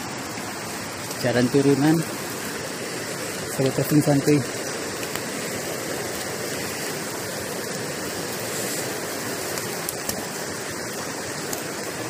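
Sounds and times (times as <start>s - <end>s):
rain falling: 0.0s - 12.0s
river running over rocks: 0.0s - 12.0s.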